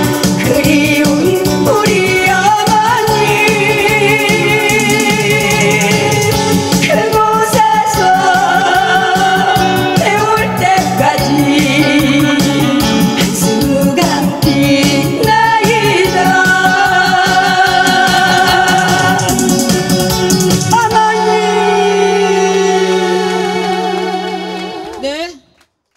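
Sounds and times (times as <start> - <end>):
woman singing into a microphone: 0.0 - 20.0, 20.6 - 25.1
backing track with steady beat: 0.0 - 25.3.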